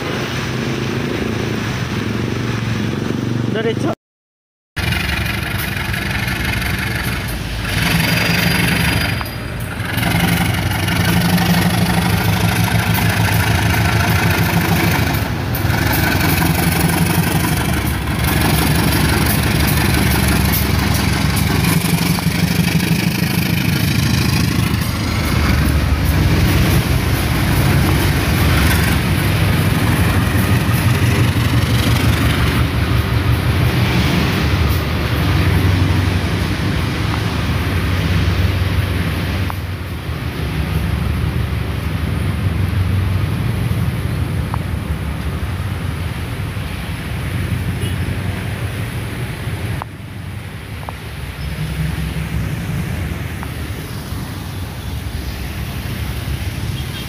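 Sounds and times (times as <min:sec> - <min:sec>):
locomotive engine working hard: 0:04.8 - 0:54.6.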